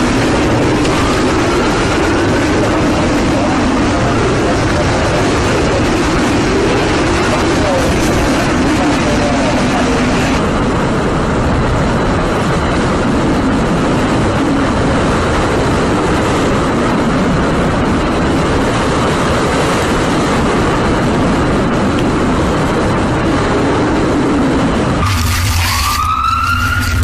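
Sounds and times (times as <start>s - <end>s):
hurricane wind blowing hard: 0.0s - 27.0s.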